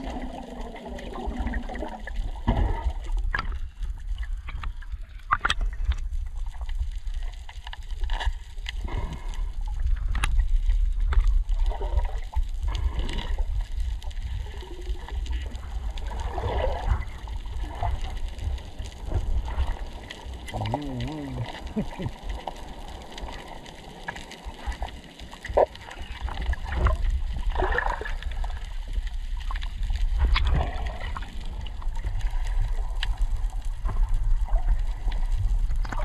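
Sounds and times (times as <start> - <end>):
water sloshing and gurgling: 0.0 - 36.0
steady low rumble: 0.8 - 35.9.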